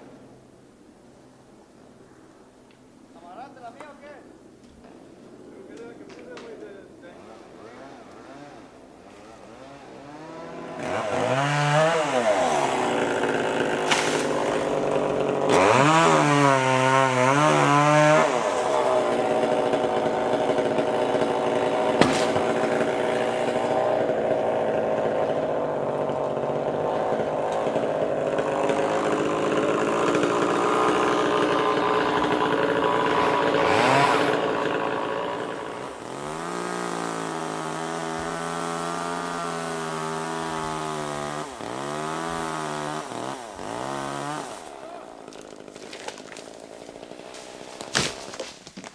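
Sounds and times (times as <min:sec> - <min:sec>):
chainsaw cutting wood: 0:07.2 - 0:48.9.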